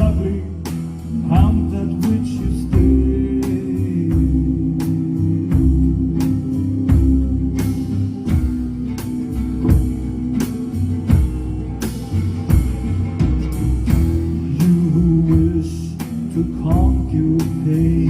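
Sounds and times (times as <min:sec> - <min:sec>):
percussion beat: 0:00.0 - 0:18.0
plucked guitar: 0:00.0 - 0:18.0
sustained low bass notes: 0:00.0 - 0:18.0.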